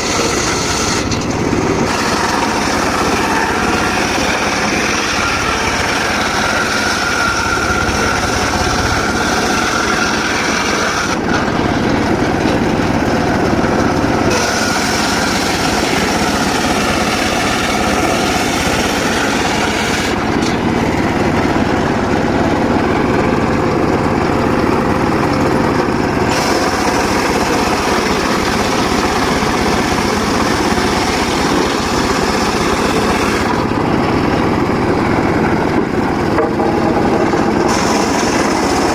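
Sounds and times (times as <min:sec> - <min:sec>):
circular saw cutting wood: 0:00.0 - 0:38.9.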